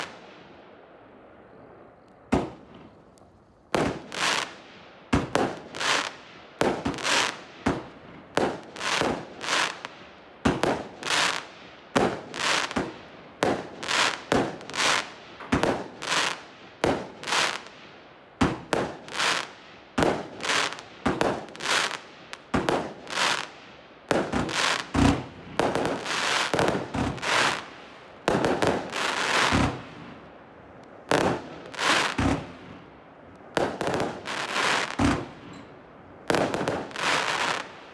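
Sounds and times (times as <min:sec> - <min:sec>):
fireworks bangs crackling: 0:00.0 - 0:00.2, 0:03.7 - 0:17.8, 0:18.4 - 0:30.1, 0:31.1 - 0:32.9, 0:33.5 - 0:35.7, 0:36.3 - 0:37.9.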